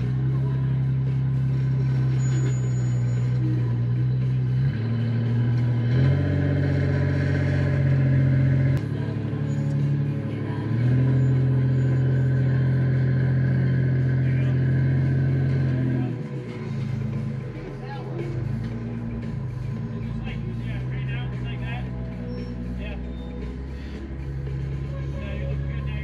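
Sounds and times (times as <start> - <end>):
off-road engine running: 0.0 - 26.0.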